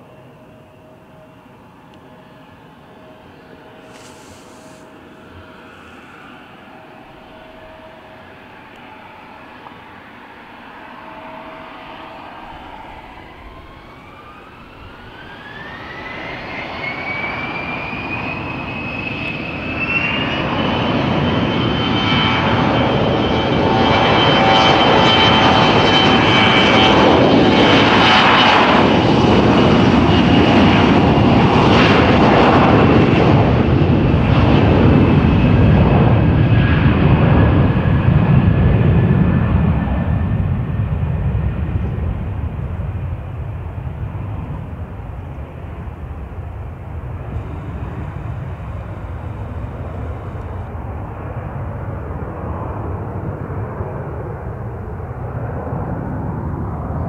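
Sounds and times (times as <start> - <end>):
jet engines whining and roaring: 0.0 - 57.0.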